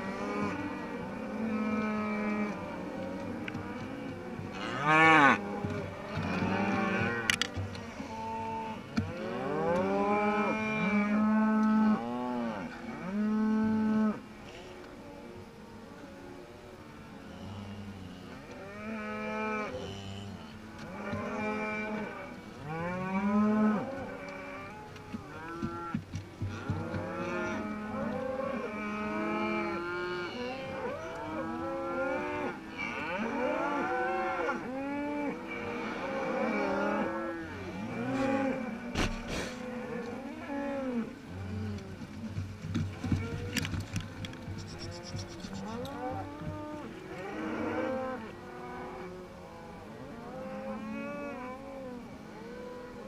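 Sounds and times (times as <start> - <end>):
cattle mooing: 0.0 - 14.7, 17.2 - 42.0, 44.5 - 51.6.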